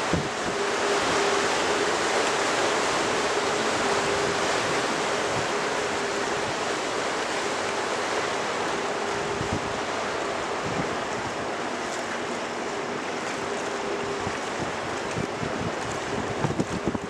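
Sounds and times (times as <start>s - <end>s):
water rushing past boat: 0.0s - 17.0s.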